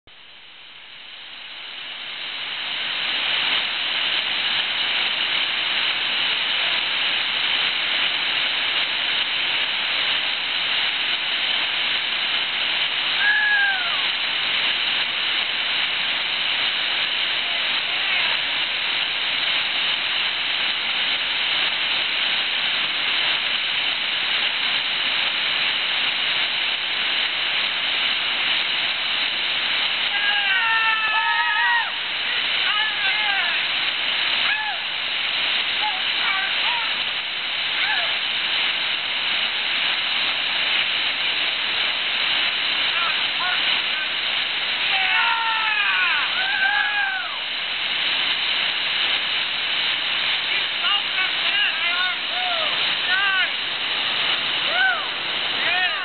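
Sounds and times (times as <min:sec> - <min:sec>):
whitewater rushing roar: 0:01.1 - 0:56.0.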